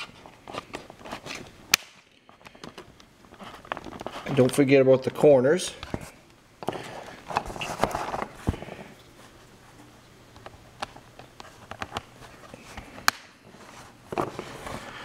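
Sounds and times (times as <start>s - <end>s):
rustling handling noise: 0.0s - 15.0s.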